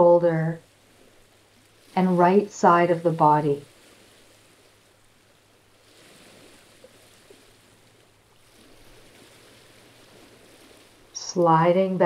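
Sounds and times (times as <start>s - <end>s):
faint sea waves lapping on rocks: 0.0s - 12.0s.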